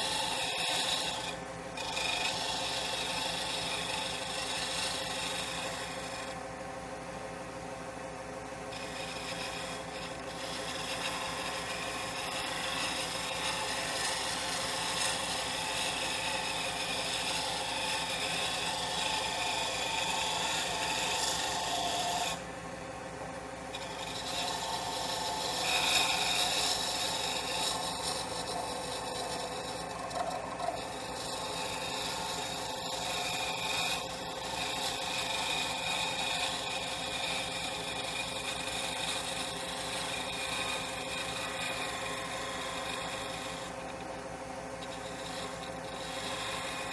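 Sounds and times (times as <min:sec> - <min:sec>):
turning tool shaving hiss: 0:00.0 - 0:46.9
wood lathe motor hum: 0:00.0 - 0:46.9.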